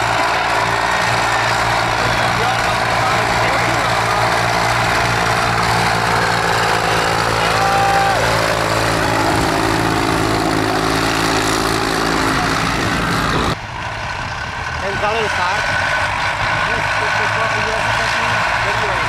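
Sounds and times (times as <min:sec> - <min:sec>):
tractor engines running: 0:00.0 - 0:19.0.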